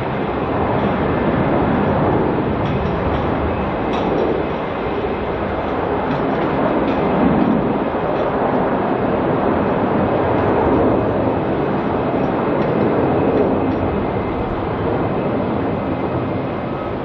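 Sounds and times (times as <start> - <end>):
jet engines taking off: 0.0 - 17.0.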